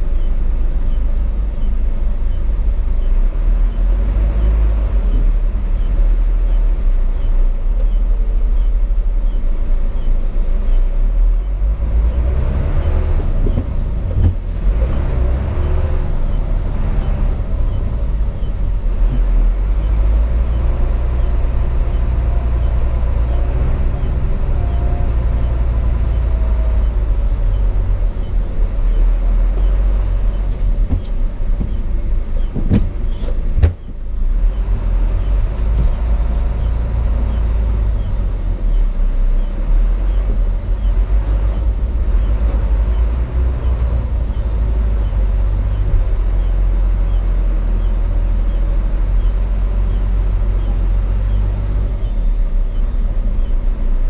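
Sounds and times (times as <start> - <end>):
road rumble: 0.0 - 54.0
truck diesel engine drone: 0.0 - 54.0.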